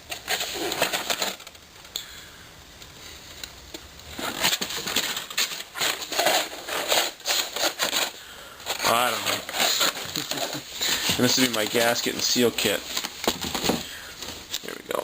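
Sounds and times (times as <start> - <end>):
packaging rustling and crinkling: 0.0 - 1.8, 3.4 - 15.0.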